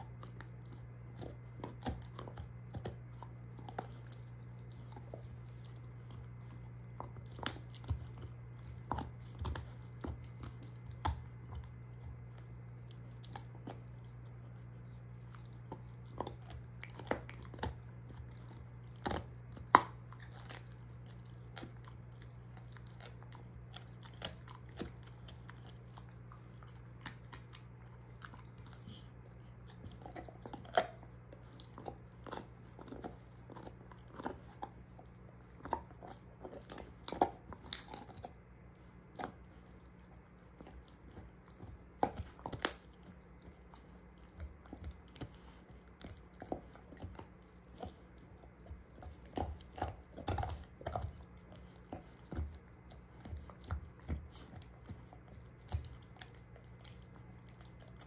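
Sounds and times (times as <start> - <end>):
dog gnawing on bone: 0.0 - 58.0.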